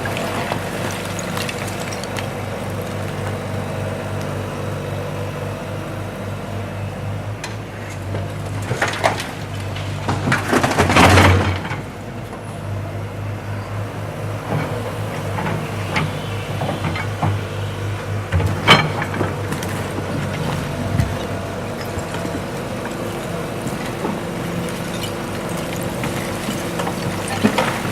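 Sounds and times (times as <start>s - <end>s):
diesel loader engine running: 0.0s - 27.9s.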